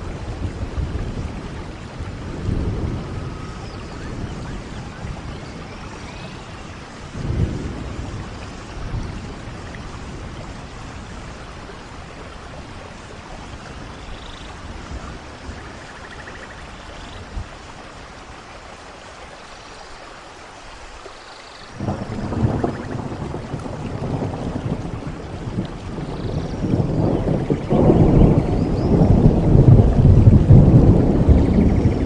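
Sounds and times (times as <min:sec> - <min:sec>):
rolling thunder: 0:00.0 - 0:16.4, 0:21.8 - 0:32.0
steady rain: 0:00.0 - 0:32.0.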